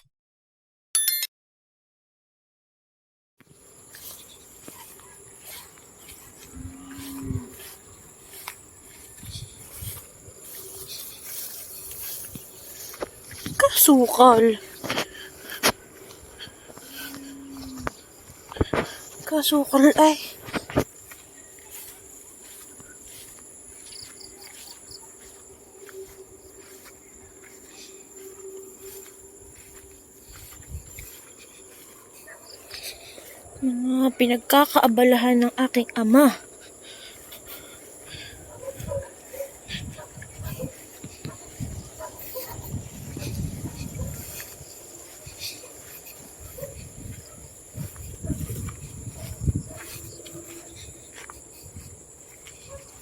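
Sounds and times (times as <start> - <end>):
insects chirring: 3.5 - 53.0.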